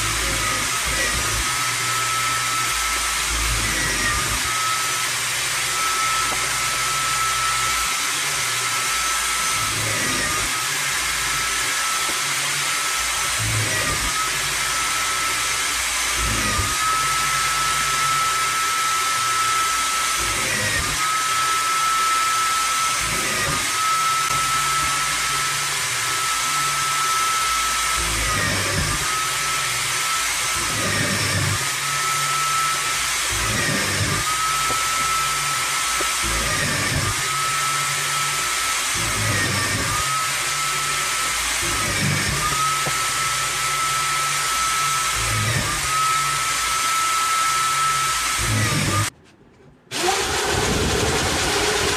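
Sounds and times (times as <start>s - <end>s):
drill press whining: 0.0s - 49.2s, 49.9s - 51.9s.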